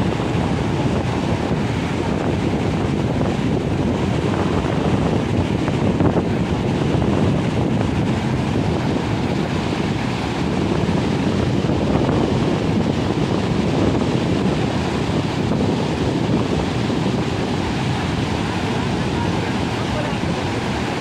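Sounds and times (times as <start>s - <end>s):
floodwater rushing through rapids: 0.0s - 21.0s.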